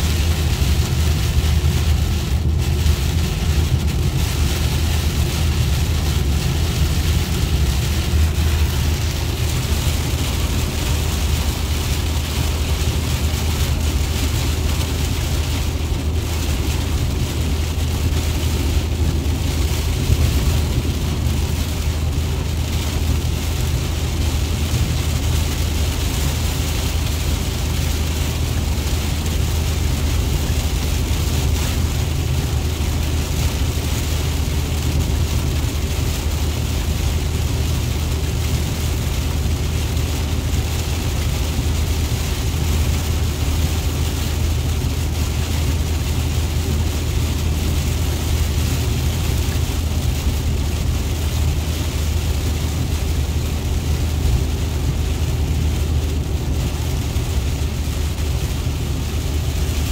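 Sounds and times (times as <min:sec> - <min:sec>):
heavy rain on car windshield: 0:00.0 - 0:59.9
road and engine rumble: 0:00.0 - 0:59.9.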